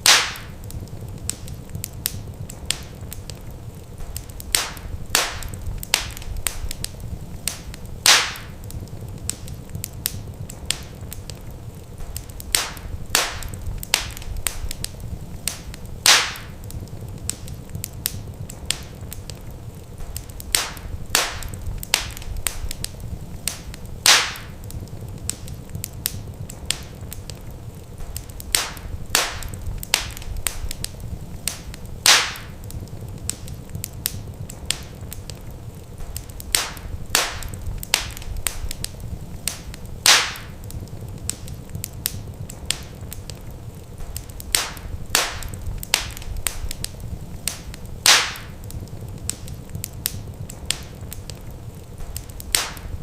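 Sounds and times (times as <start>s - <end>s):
low steady rumble: 0.0s - 53.0s
wood fire crackling: 0.0s - 53.0s.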